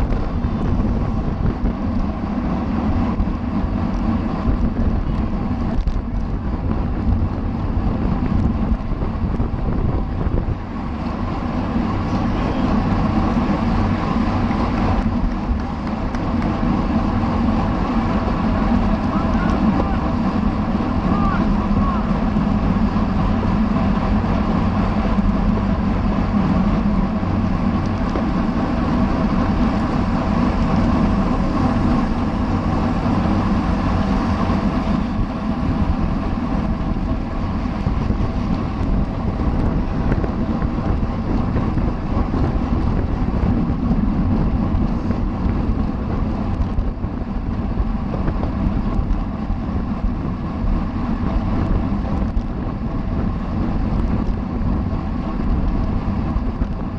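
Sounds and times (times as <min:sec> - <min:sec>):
bicycle tyres and drivetrain hum: 0:00.0 - 0:56.9
wind rushing over microphone: 0:00.0 - 0:56.9.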